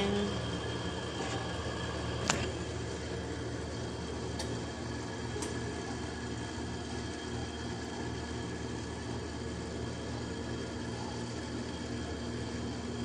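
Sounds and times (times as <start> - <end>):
appliance motor humming: 0.0 - 13.0.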